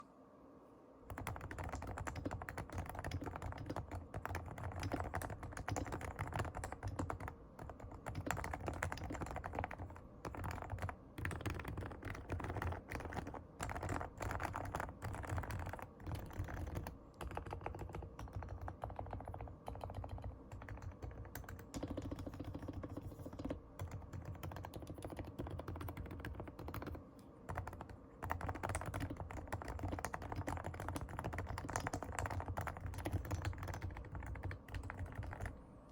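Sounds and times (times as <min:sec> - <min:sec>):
soft keyboard typing: 0:01.1 - 0:35.6.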